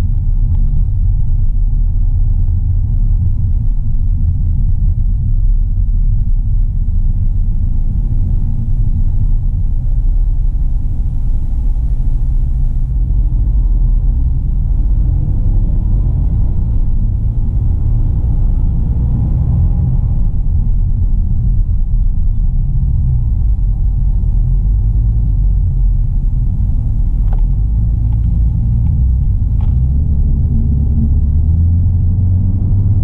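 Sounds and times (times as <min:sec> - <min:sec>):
car driving low rumble: 0:00.0 - 0:33.0.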